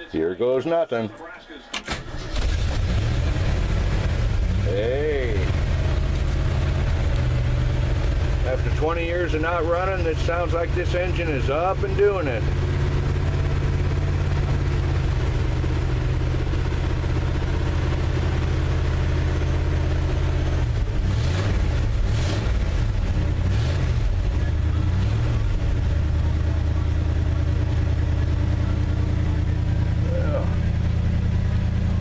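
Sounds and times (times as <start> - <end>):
engine idling and revving: 1.8 - 32.0.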